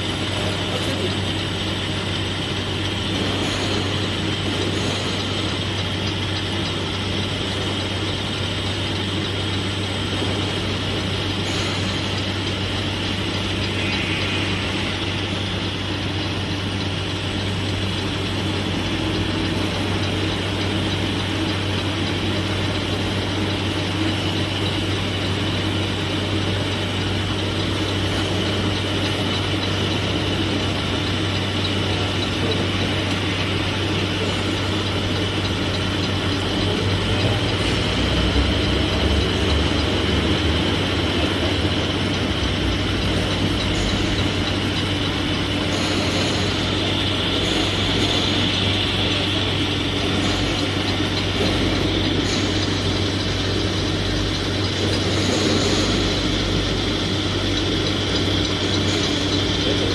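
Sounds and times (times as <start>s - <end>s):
low hum: 0.0s - 59.9s
milling machine cutting steel: 0.0s - 59.9s.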